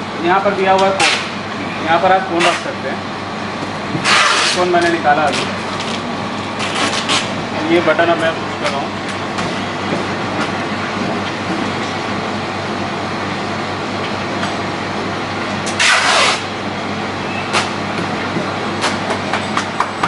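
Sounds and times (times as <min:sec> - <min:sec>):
ice cream machine humming: 0:00.0 - 0:20.0.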